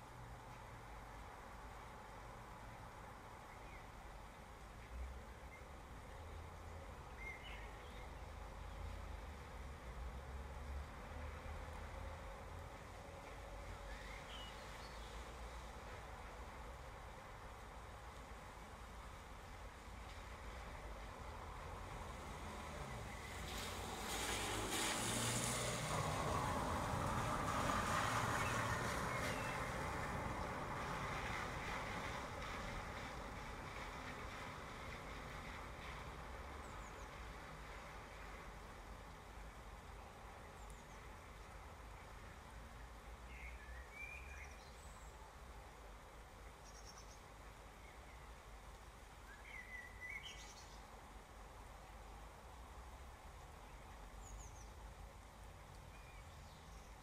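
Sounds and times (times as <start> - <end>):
steady rain: 0.0 - 57.0
car tyres hissing on wet street: 6.1 - 57.0.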